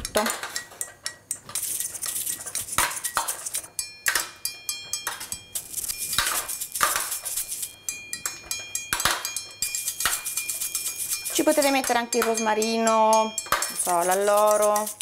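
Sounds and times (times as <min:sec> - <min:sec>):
metal spoon scraping steel pan: 0:01.5 - 0:03.8, 0:05.0 - 0:15.0.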